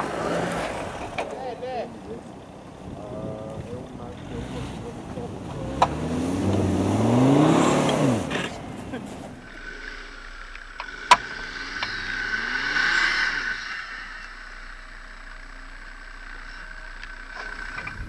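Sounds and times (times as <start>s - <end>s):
steady high whine: 0.0s - 18.0s
suv engine revving: 0.0s - 18.0s.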